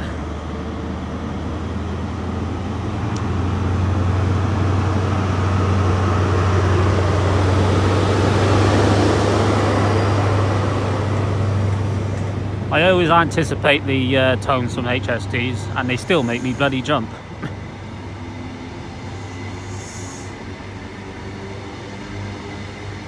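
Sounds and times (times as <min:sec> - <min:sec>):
diesel train engine rumbling: 0:00.0 - 0:23.0.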